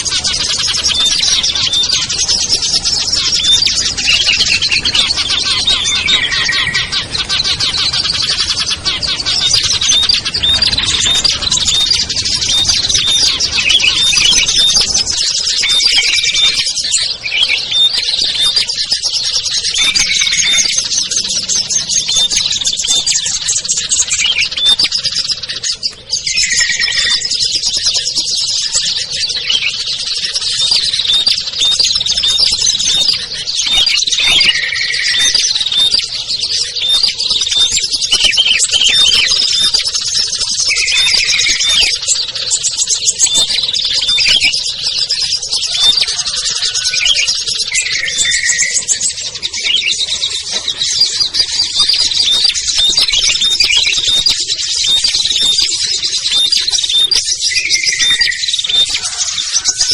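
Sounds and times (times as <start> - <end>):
lower whistled bird phrase: 0.0 - 25.3, 26.2 - 59.9
songbirds chirping and twittering: 0.0 - 59.9.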